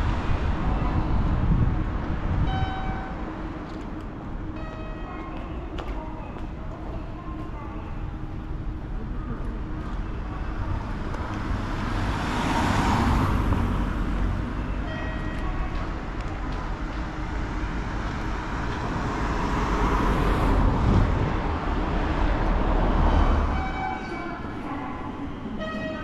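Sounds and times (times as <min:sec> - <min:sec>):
passing vehicles rumble: 0:00.0 - 0:05.0, 0:07.9 - 0:26.0.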